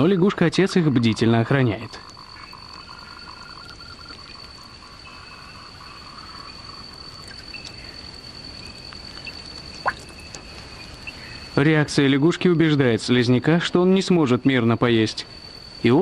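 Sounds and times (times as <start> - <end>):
insect trill: 0.0 - 16.0
tree frogs calling: 0.0 - 16.0.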